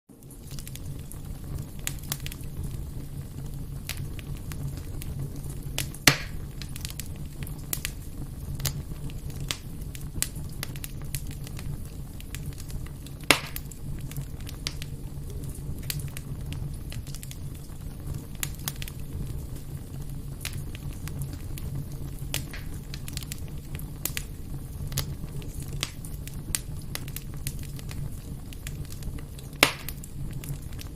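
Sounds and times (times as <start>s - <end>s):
fire crackling in a fireplace: 0.1s - 30.9s
low steady rumble: 0.2s - 30.9s.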